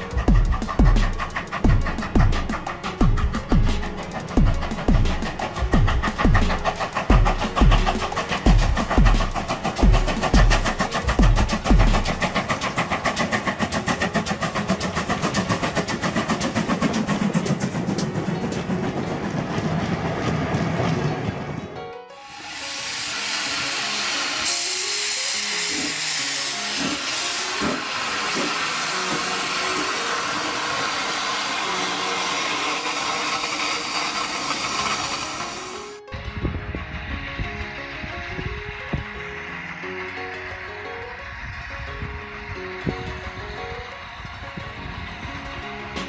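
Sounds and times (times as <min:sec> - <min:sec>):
steam locomotive exhaust beating: 0:00.0 - 0:46.0.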